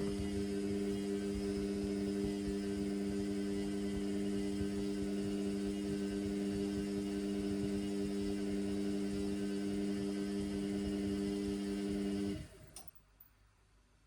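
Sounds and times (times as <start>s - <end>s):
washing machine humming: 0.0s - 12.8s.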